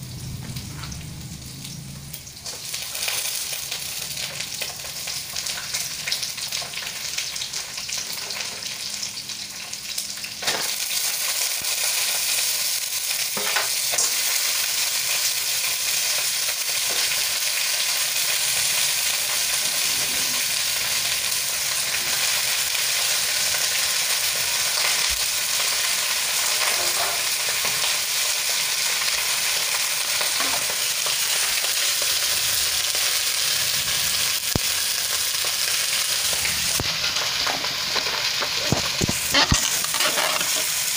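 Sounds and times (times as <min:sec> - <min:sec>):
seafood sizzling in hot oil: 0:00.0 - 0:40.9.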